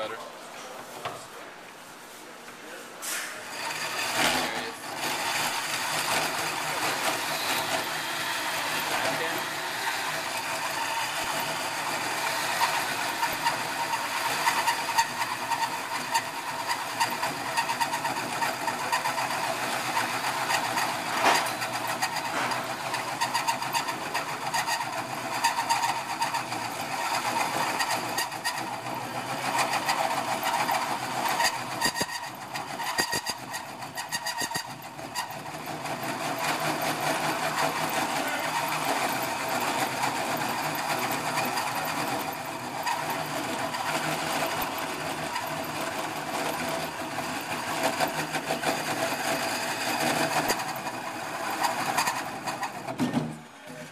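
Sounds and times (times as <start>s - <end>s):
hole saw grinding through metal: 3.5s - 53.0s.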